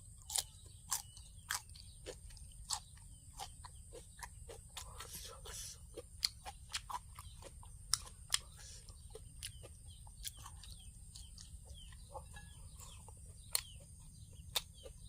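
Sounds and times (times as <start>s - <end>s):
person eating close to microphone: 0.0s - 15.0s
chickens clucking: 0.3s - 15.0s.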